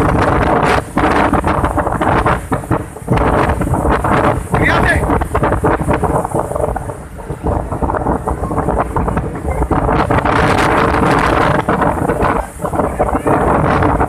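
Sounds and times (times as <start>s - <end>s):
surf breaking on shore: 0.0s - 14.0s
wind buffeting microphone: 0.0s - 14.0s.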